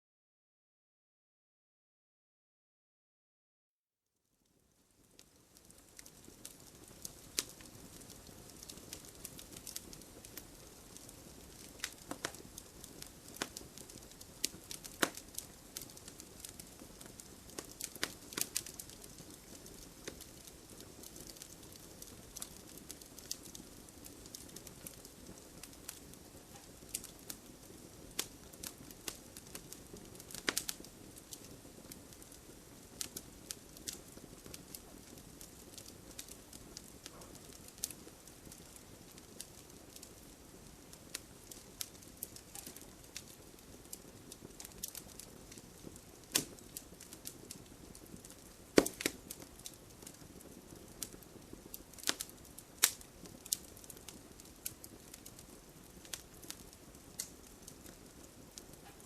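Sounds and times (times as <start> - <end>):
wood fire crackling: 4.5 - 59.0.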